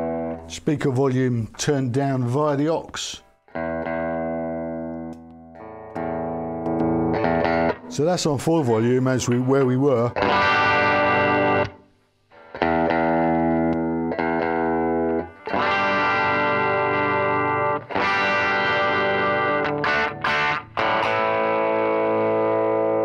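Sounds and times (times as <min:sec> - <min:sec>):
overdriven electric guitar chords: 0:00.0 - 0:00.5, 0:03.4 - 0:23.0.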